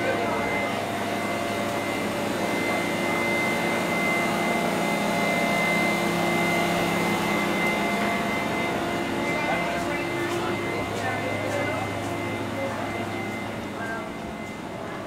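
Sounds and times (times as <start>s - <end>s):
machine drone with high whine: 0.0s - 15.0s.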